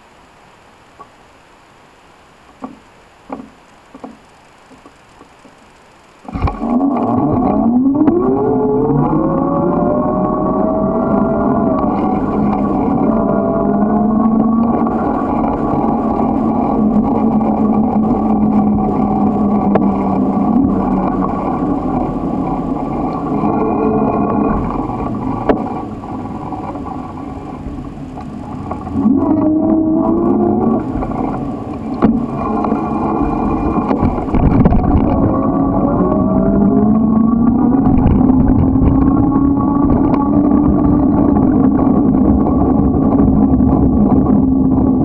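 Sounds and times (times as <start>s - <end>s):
ride hum and rumble: 0.0s - 45.0s.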